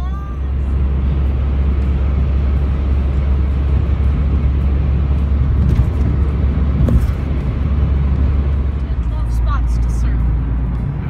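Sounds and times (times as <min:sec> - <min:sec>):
car cabin engine rumble: 0:00.0 - 0:11.0.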